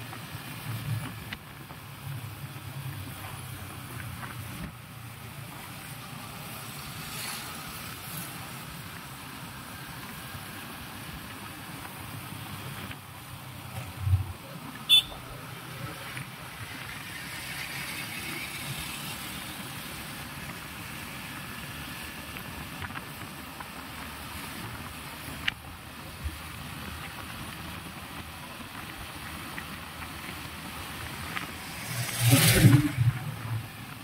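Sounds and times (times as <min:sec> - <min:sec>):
traffic road noise: 0:00.0 - 0:34.0.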